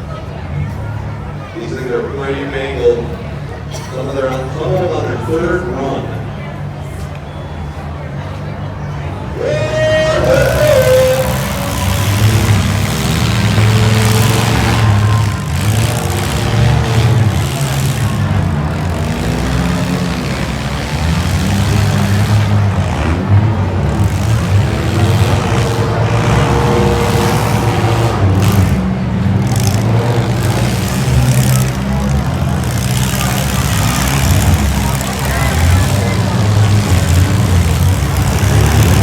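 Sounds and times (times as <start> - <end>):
car engines running: 0.0 - 39.0.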